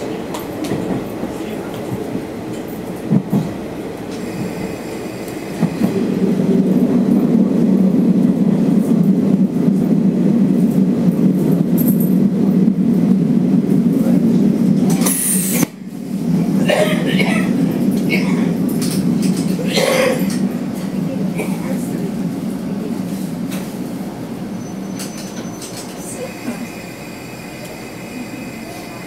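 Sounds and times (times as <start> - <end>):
diesel railcar rumbling: 0.0 - 29.0.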